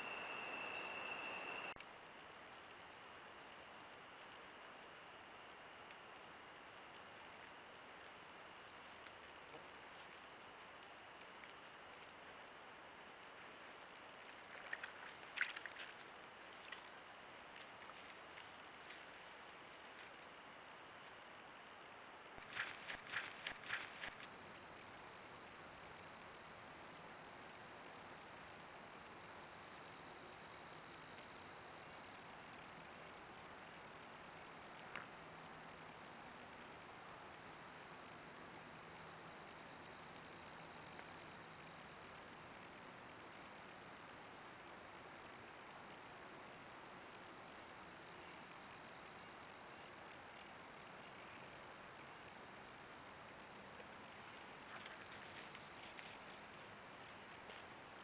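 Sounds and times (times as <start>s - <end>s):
crickets trilling: 0.0s - 26.7s, 30.5s - 58.0s.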